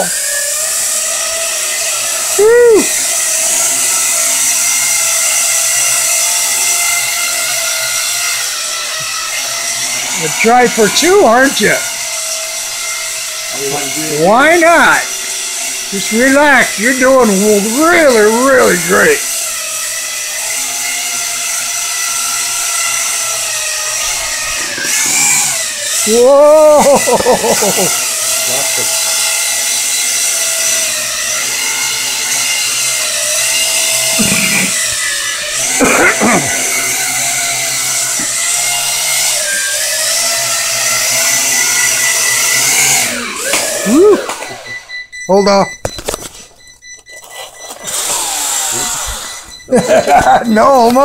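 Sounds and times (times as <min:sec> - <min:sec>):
quadcopter motors whining: 0:00.0 - 0:51.0.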